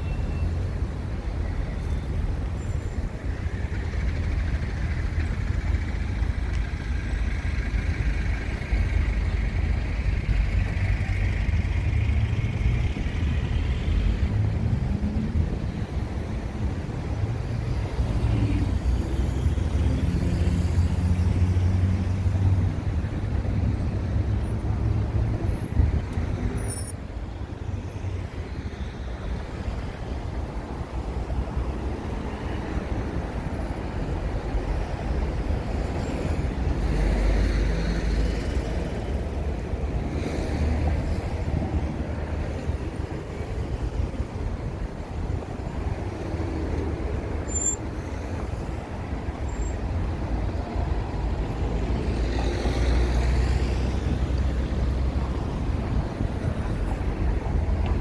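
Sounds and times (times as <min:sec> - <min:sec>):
heavy traffic rumble: 0:00.0 - 0:58.0.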